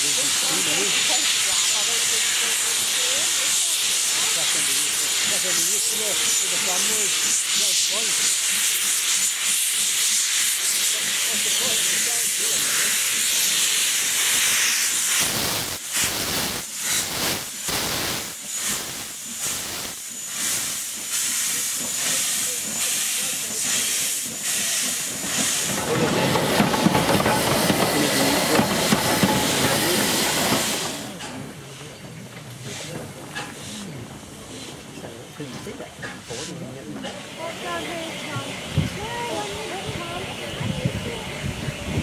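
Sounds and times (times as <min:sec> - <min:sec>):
rough steam engine running by: 0:00.0 - 0:15.2, 0:18.4 - 0:42.0
steam locomotive exhaust chuffs: 0:00.0 - 0:35.0, 0:36.0 - 0:42.0
loud steam hiss: 0:00.0 - 0:42.0.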